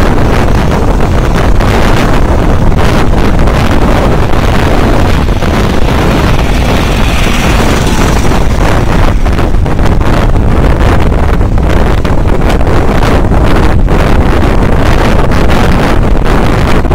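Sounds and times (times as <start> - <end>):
road and engine noise: 0.0 - 16.9
wind buffeting the microphone: 0.0 - 16.9.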